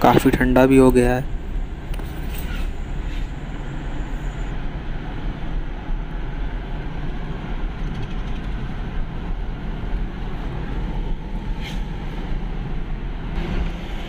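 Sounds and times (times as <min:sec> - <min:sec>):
car road noise on wet road: 0:00.0 - 0:14.0.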